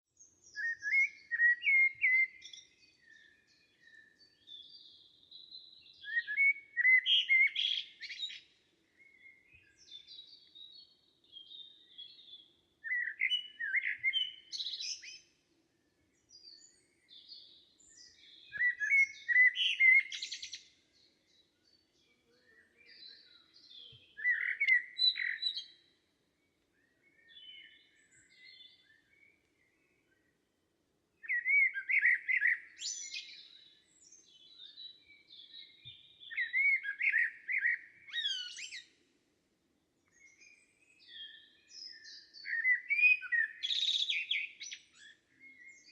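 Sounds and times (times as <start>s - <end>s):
songbirds chirping and trilling: 0.1s - 45.9s.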